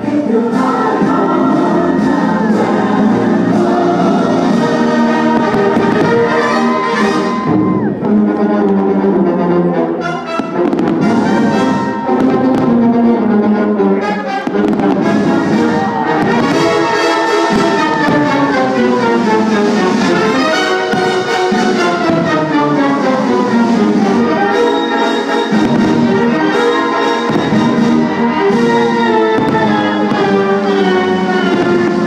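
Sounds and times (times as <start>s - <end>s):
orchestral brass music: 0.0s - 32.0s
firework bangs: 1.0s - 8.3s, 10.3s - 13.2s, 14.3s - 32.0s.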